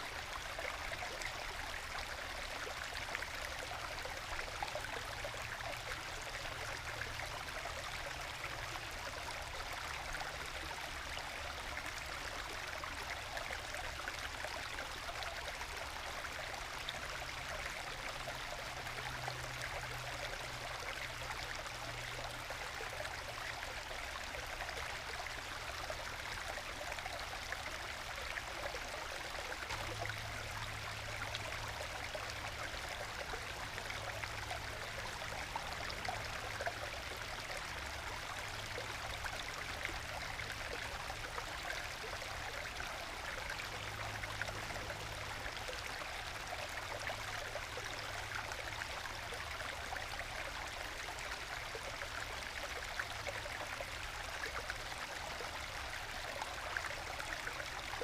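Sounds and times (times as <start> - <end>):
stream babbling over rocks: 0.0 - 58.0.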